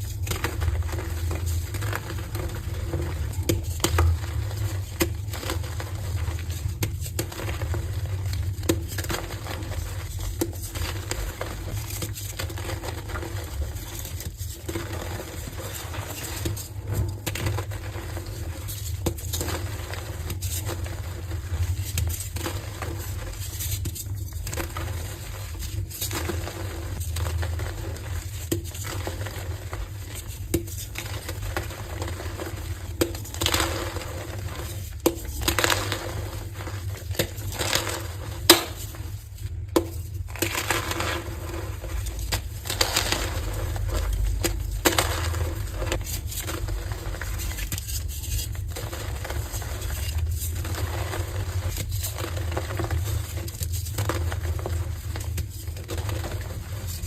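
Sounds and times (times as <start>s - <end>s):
chalk crunching: 0.0s - 57.0s.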